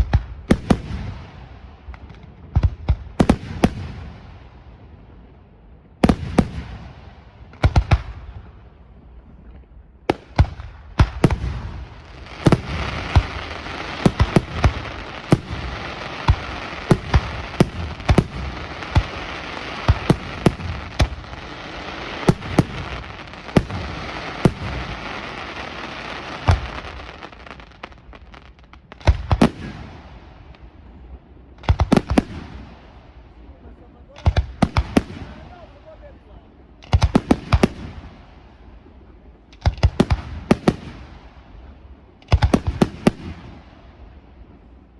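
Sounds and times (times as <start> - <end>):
firework crackle: 0.0 - 5.2, 10.0 - 44.9.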